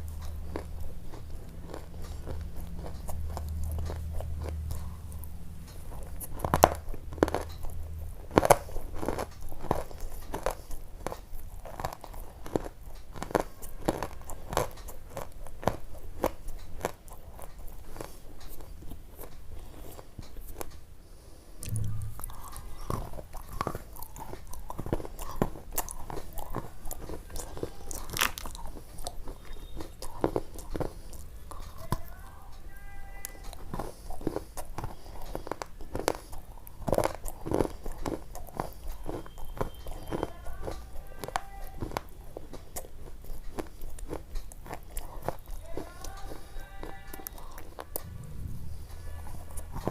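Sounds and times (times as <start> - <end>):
crunching and chewing: 0.0 - 49.9.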